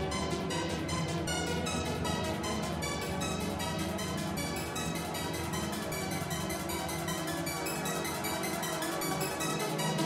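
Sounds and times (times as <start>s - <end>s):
music with fast beat: 0.0s - 10.0s.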